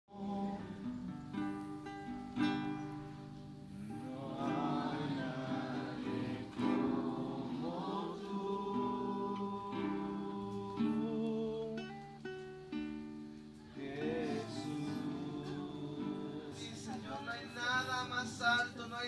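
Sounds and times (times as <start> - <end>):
voices singing worship song: 0.1 - 1.8, 2.6 - 12.4, 13.7 - 19.0
acoustic guitar: 0.1 - 19.0.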